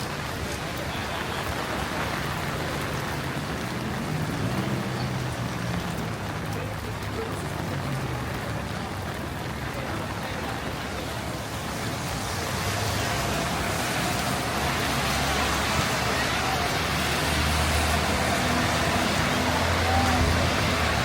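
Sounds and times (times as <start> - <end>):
heavy rain on a street: 0.0 - 21.0
traffic passing: 0.0 - 21.0.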